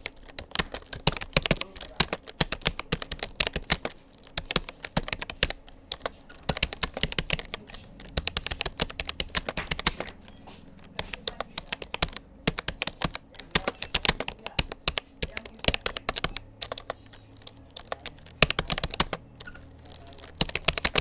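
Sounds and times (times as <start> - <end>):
keyboard keys clicking: 0.0 - 21.0.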